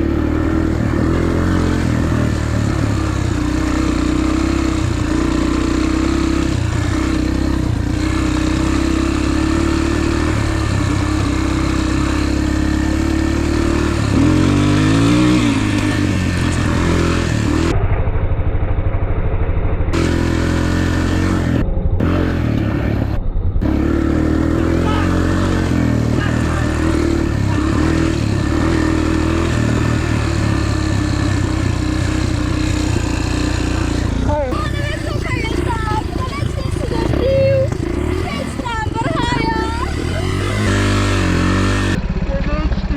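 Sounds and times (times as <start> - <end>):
dirt bike engine revving: 0.0 - 17.8, 19.9 - 42.7.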